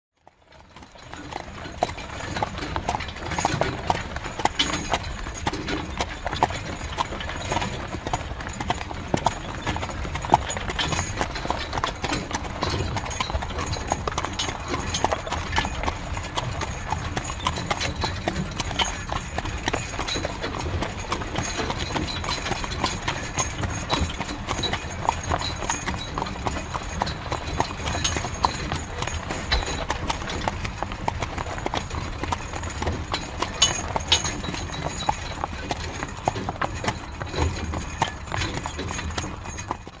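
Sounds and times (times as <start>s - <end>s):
hooves clip-clopping: 0.2s - 40.0s
wooden cart rumbling and rattling: 0.3s - 40.0s.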